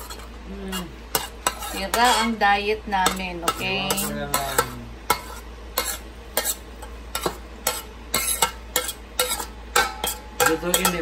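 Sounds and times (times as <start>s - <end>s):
metal spoon scraping skillet: 0.0s - 11.0s.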